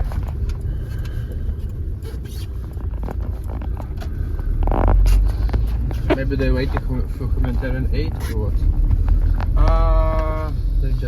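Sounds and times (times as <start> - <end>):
car road rumble from inside: 0.0 - 11.0.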